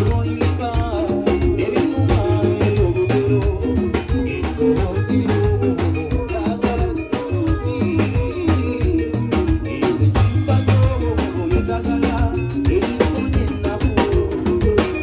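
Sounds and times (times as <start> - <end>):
deep bass line: 0.0 - 15.0
steady percussion beat: 0.0 - 15.0.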